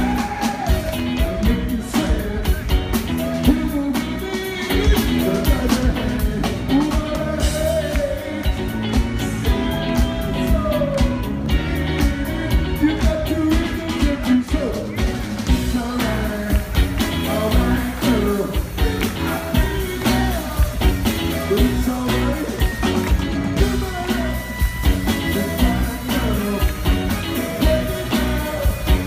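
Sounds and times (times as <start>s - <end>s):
lead singer singing: 0.0s - 29.0s
live rock band with horns: 0.0s - 29.0s.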